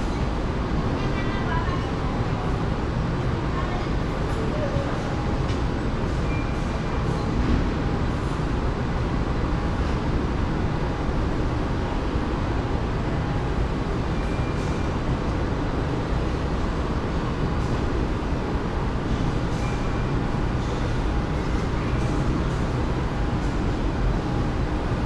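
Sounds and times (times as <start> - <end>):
airport terminal rumble: 0.0 - 25.0.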